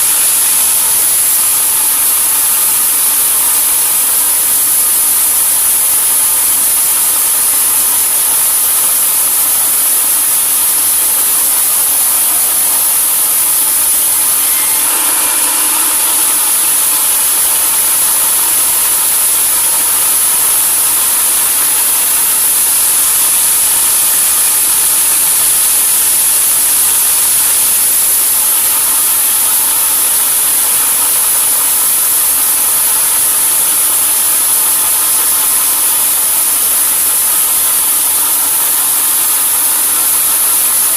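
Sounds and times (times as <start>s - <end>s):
machine drone: 0.0s - 40.6s
sawmill saw hissing: 0.0s - 40.9s.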